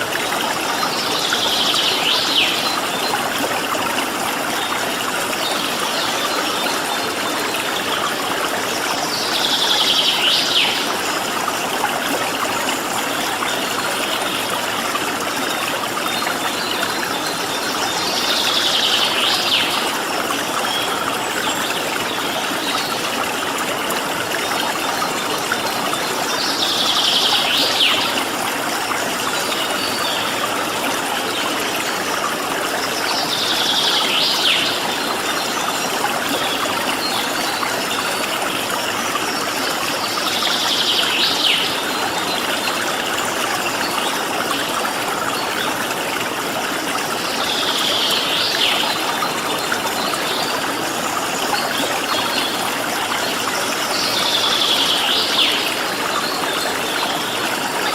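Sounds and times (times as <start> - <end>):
stream running and splashing: 0.0 - 57.9.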